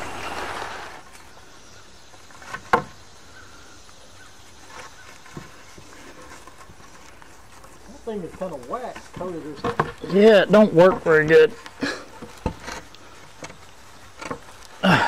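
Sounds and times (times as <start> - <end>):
noisy rustle: 0.0 - 15.0.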